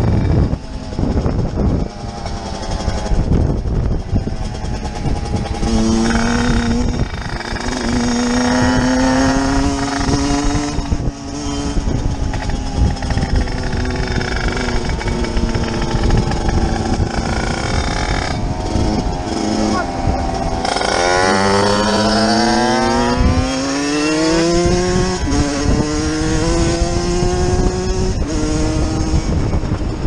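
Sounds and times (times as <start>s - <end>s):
motorcycle engines revving: 0.0s - 30.0s
wind buffeting microphone: 0.0s - 30.0s.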